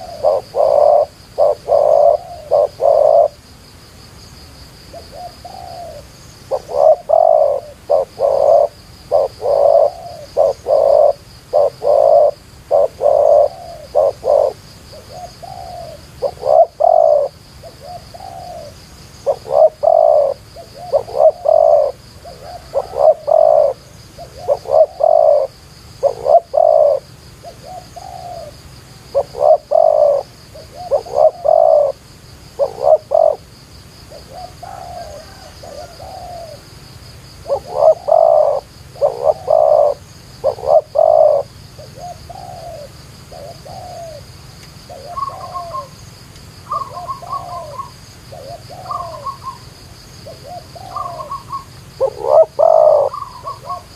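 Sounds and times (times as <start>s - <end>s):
doves cooing: 0.0s - 3.4s, 4.9s - 36.7s, 37.4s - 44.3s, 44.9s - 53.9s
high insect buzz: 0.0s - 53.9s.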